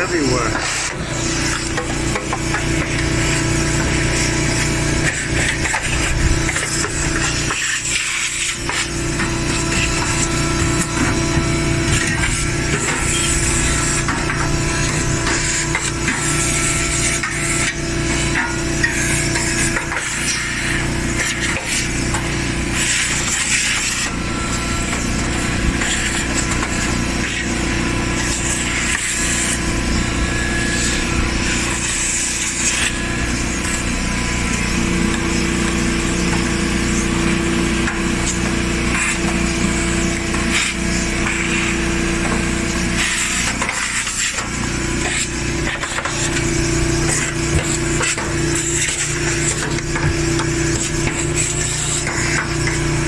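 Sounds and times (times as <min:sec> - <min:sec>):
vacuum cleaner running: 0:00.0 - 0:53.0.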